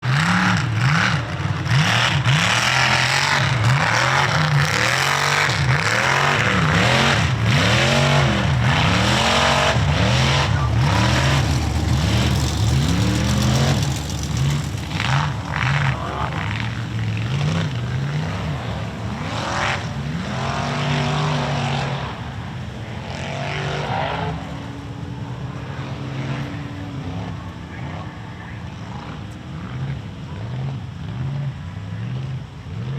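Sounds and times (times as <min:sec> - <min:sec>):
truck engine revving: 0:00.0 - 0:32.9.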